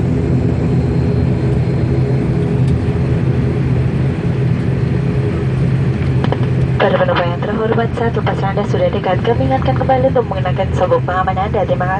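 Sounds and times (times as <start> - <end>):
turboprop engines droning: 0.0 - 11.9.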